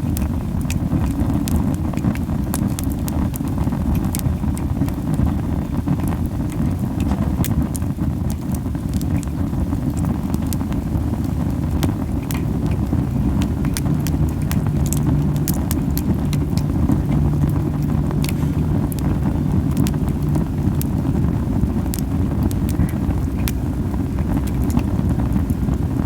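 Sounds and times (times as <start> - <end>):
campfire flames rumbling: 0.0 - 26.0
fire crackling and popping: 0.0 - 26.0.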